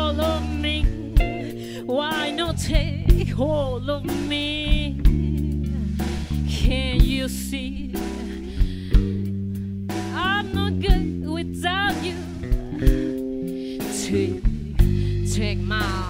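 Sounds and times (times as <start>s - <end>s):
woman singing with vibrato: 0.0s - 8.9s, 10.1s - 13.0s, 13.8s - 14.5s, 15.1s - 16.0s
bass notes: 0.0s - 16.0s
drum kit: 0.0s - 16.0s
guitar: 0.0s - 16.0s.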